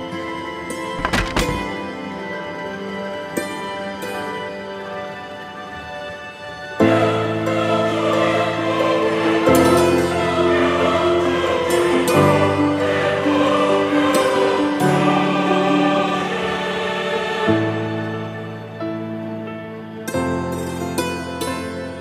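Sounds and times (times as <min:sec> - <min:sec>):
choir singing held chords: 0:00.0 - 0:21.5.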